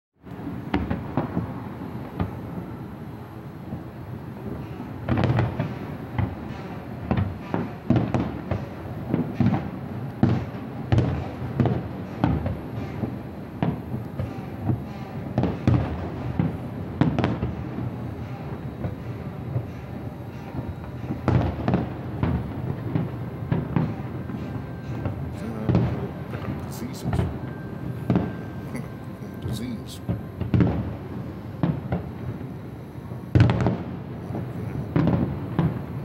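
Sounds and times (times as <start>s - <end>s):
fireworks booming with echoes: 0.2s - 36.0s.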